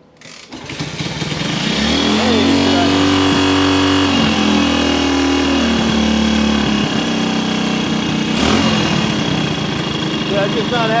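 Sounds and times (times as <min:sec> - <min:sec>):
motorcycle engine idling: 0:00.2 - 0:11.0.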